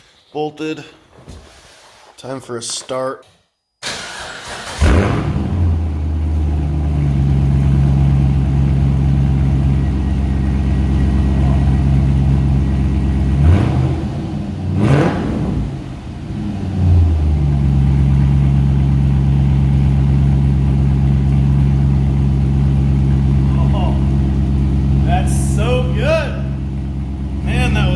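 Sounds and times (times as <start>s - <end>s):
car engine idling and revving: 3.9s - 27.9s.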